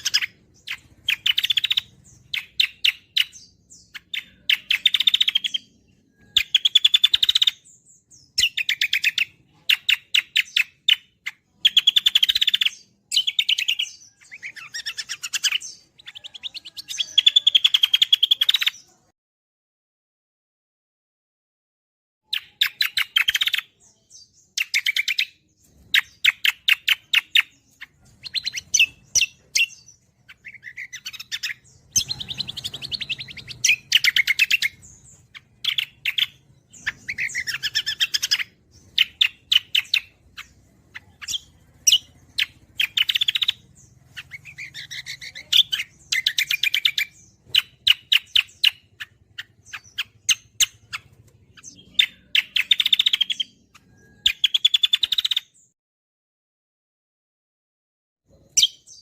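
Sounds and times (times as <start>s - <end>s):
bird singing chattering trills: 0.0s - 19.0s, 22.2s - 55.8s, 58.3s - 59.0s.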